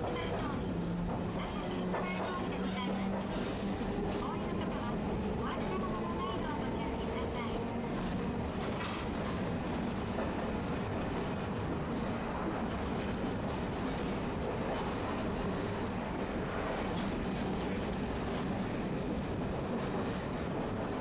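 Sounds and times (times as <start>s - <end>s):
streetcar motors and wheels rumbling: 0.0s - 21.0s.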